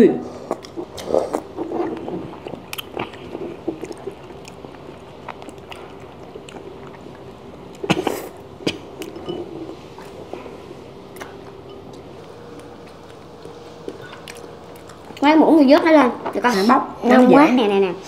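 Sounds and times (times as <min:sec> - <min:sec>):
wet chewing: 0:00.4 - 0:15.9.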